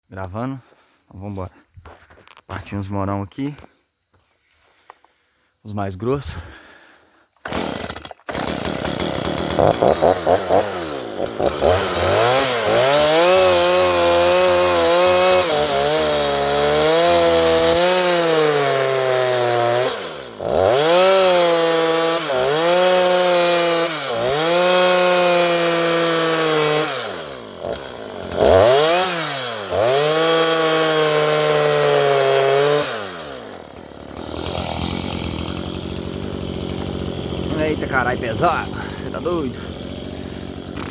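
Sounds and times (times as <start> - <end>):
chainsaw cutting wood: 7.4 - 40.9.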